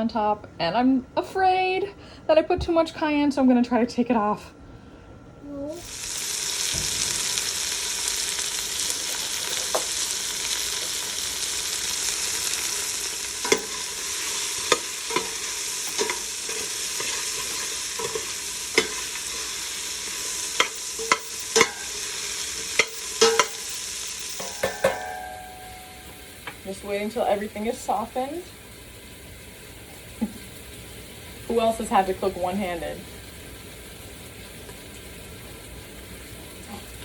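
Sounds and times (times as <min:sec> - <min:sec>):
vegetables sizzling in a pan: 0:05.5 - 0:37.0.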